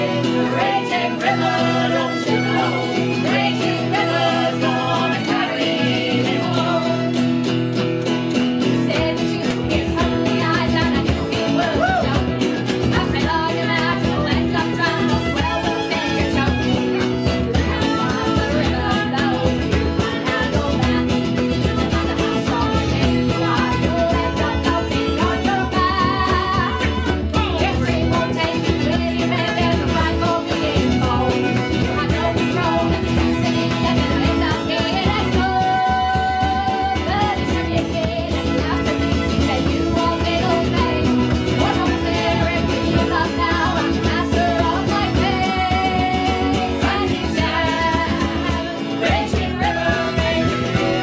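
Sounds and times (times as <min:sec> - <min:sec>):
bowed fiddle: 0:00.0 - 0:07.5, 0:12.0 - 0:51.0
several voices singing: 0:00.0 - 0:07.6, 0:08.4 - 0:51.0
electric guitar: 0:00.0 - 0:51.0
live folk-rock band playing: 0:00.0 - 0:51.0
strummed acoustic guitars: 0:00.0 - 0:51.0.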